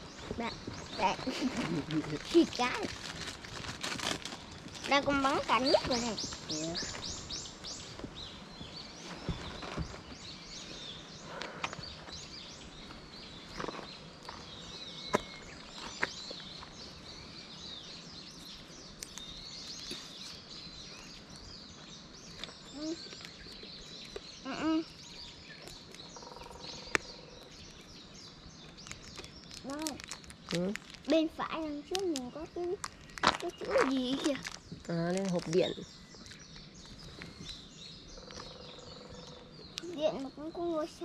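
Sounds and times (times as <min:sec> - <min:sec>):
wild birds chirping and calling: 0:00.0 - 0:41.0.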